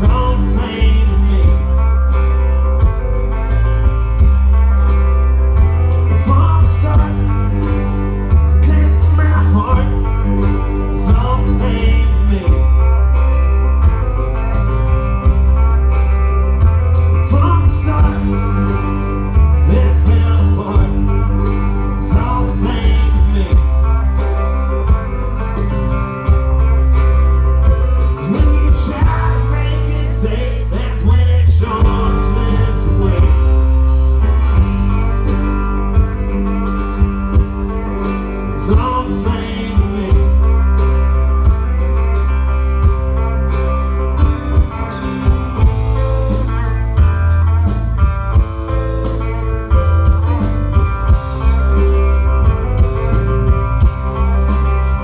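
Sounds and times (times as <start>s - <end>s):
drums: 0.0s - 55.0s
electric guitars: 0.0s - 55.0s
heavy bass line: 0.0s - 55.0s.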